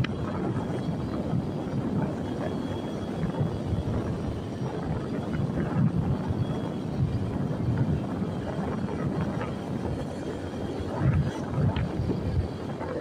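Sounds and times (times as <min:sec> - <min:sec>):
vehicle rumbling on road: 0:00.0 - 0:13.0
wind buffeting microphone: 0:00.0 - 0:13.0.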